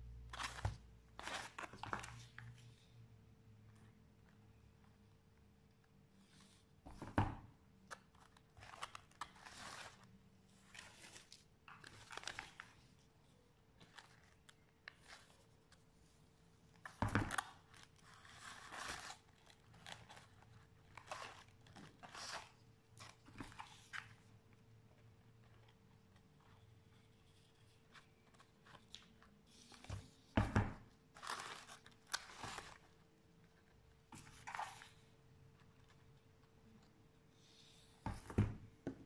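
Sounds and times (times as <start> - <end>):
rustling and crinkling of crafts: 0.0 - 39.0.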